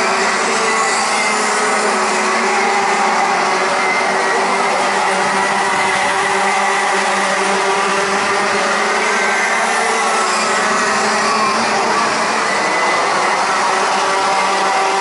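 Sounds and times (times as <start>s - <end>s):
kart engines droning: 0.0s - 15.0s.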